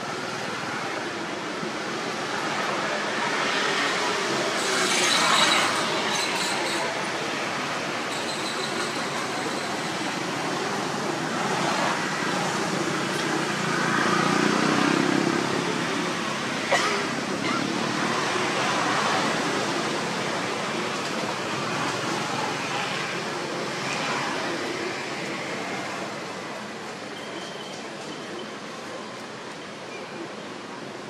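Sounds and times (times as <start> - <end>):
rushing outdoor background noise: 0.0 - 31.0.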